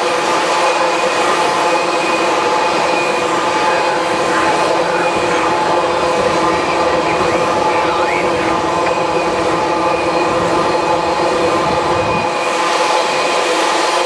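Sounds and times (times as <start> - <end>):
steel wheels rumbling on rail: 0.0 - 14.0.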